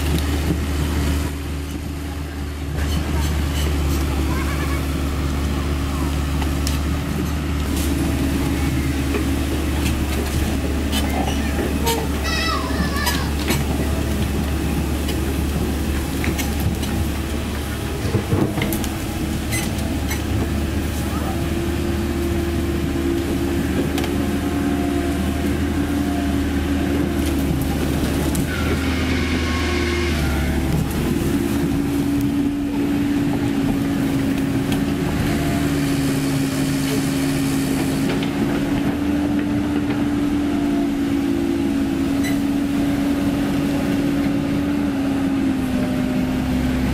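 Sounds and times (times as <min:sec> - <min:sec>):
excavator diesel engine running: 0:00.0 - 0:46.9
steel tracks clanking: 0:00.0 - 0:46.9.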